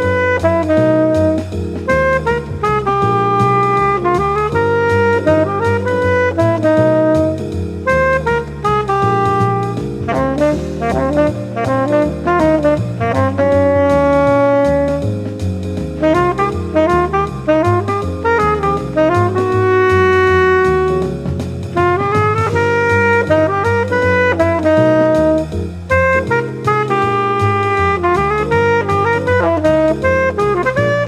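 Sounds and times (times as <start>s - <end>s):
bass and drums backing track: 0.0s - 31.0s
tenor saxophone jazz melody: 0.0s - 31.0s.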